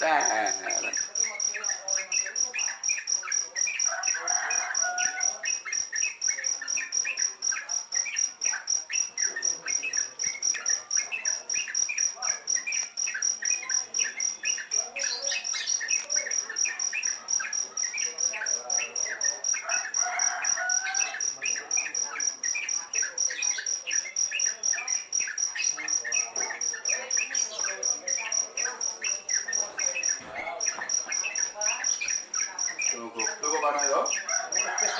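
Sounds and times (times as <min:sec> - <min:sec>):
bird chicks chirping: 0:00.0 - 0:34.9
cricket trilling: 0:00.0 - 0:34.9.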